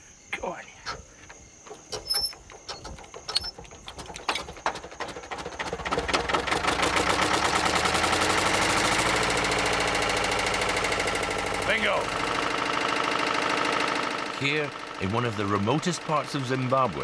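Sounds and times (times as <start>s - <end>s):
diesel engine starting: 0.9s - 17.0s.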